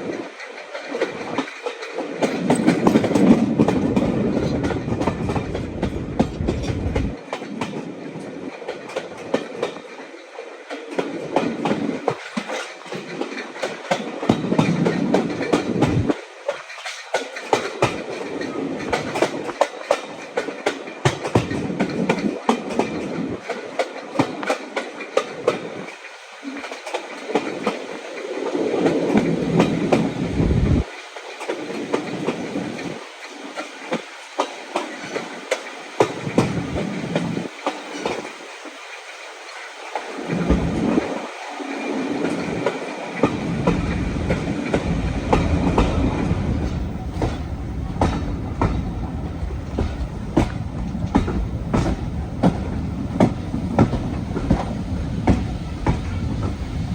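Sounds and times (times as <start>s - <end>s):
train rumble: 0.0s - 56.9s
train wheels clickety-clack: 0.0s - 56.9s.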